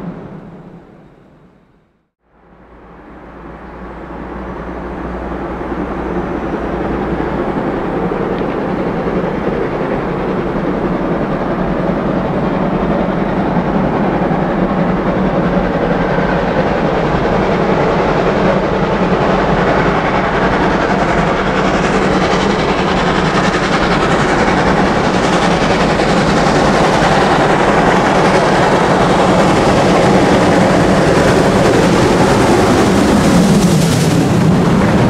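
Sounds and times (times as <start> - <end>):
steam locomotive working uphill: 0.0 - 35.0.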